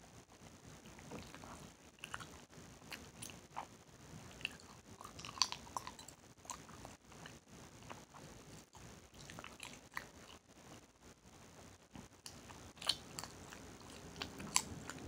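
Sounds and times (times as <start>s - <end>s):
gum chewing with smacking: 0.8s - 10.8s, 12.0s - 15.0s.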